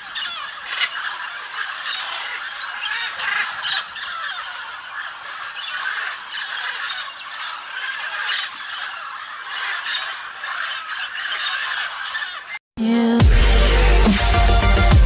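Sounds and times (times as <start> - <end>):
parrots chattering and squawking: 0.0 - 12.6.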